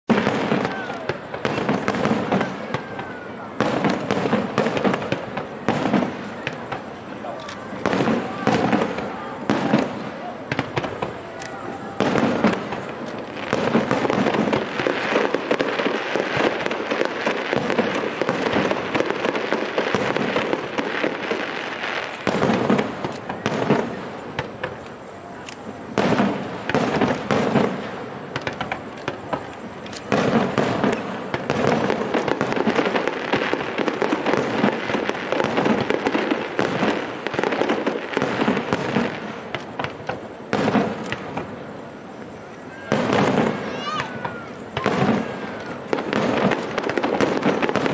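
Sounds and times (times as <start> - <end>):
firework crackling: 0.1 - 47.9
firework shells bursting: 0.1 - 47.9.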